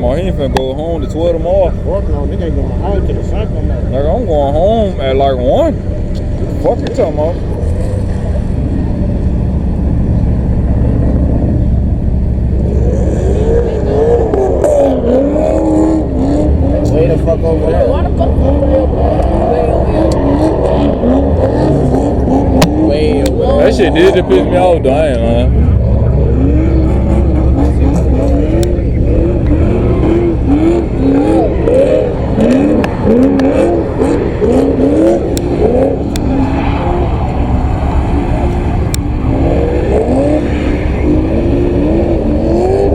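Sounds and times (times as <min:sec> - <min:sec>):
car engine rumbling: 0:00.0 - 0:42.9.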